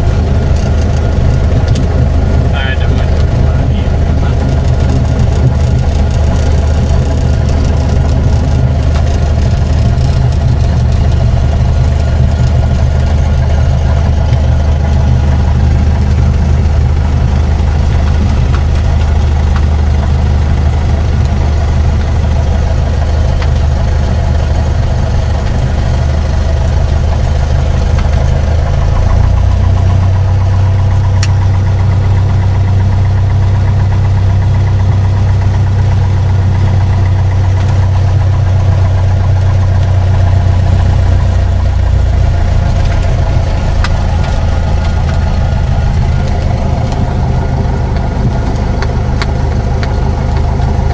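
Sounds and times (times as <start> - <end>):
light aircraft piston engine: 0.0 - 50.9.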